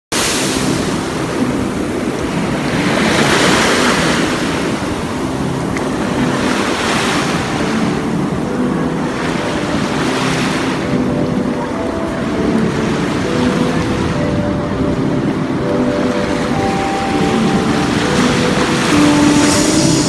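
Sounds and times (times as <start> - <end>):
small waves on sandy beach: 0.2 - 20.0.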